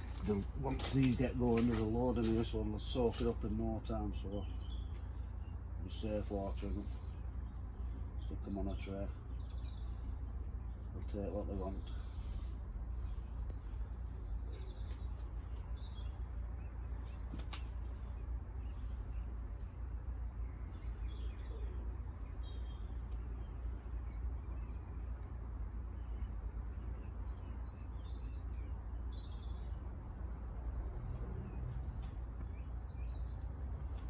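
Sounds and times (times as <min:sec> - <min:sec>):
low background rumble: 0:00.0 - 0:34.0
small birds chirping: 0:00.0 - 0:34.0.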